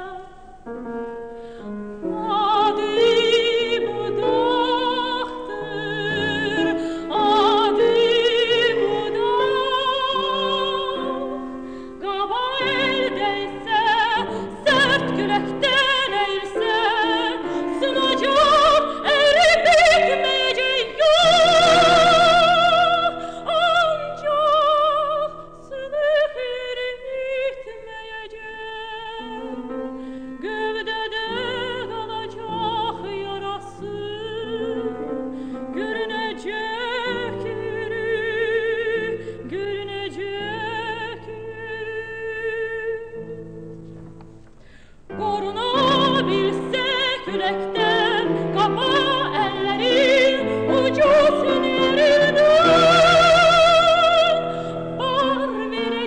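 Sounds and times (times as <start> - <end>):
piano accompaniment: 0.0 - 26.8, 28.6 - 56.0
soprano singing with vibrato: 0.0 - 43.9, 45.1 - 56.0.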